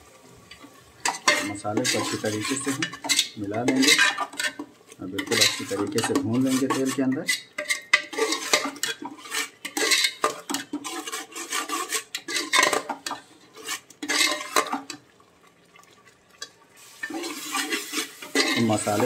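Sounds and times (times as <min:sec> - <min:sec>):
paste frying in oil: 0:00.0 - 0:19.0
metal ladle scraping a pot: 0:00.5 - 0:15.0, 0:16.4 - 0:19.0.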